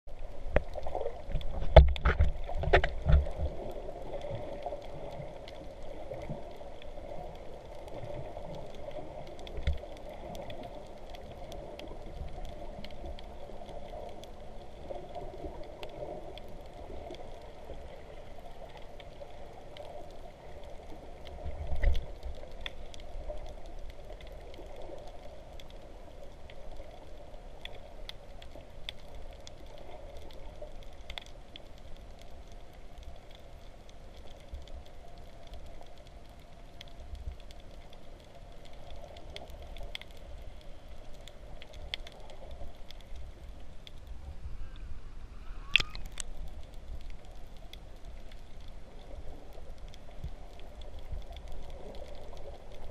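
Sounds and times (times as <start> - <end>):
faint underwater clicks: 0.1 - 52.9
underwater water wash: 0.1 - 52.9.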